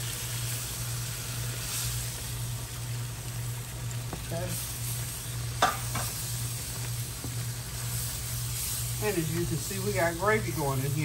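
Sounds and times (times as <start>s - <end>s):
gravy sizzling in a skillet: 0.0s - 11.0s.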